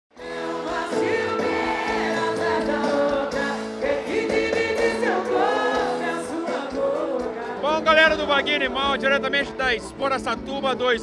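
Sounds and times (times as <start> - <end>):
live band playing: 0.2 - 11.0.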